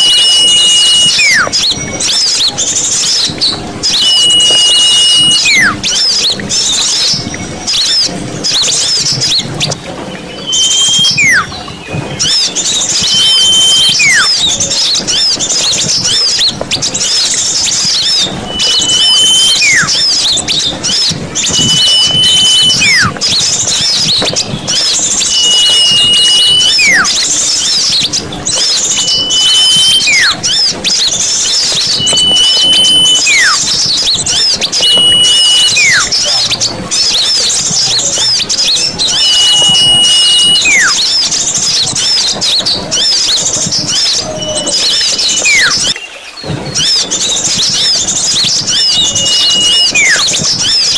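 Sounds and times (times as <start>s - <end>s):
downward sliding whistle call: 0.0s - 50.9s
small birds chattering: 0.0s - 50.9s.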